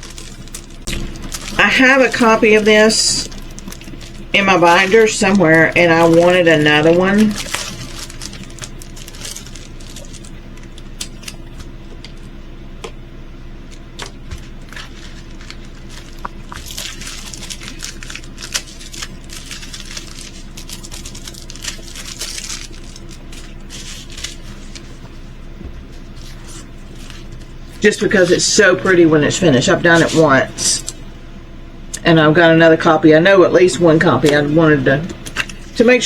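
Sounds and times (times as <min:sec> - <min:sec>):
plastic packaging crinkling: 0:00.0 - 0:13.0, 0:13.6 - 0:31.0, 0:33.5 - 0:36.0
steady low hum: 0:00.0 - 0:36.0.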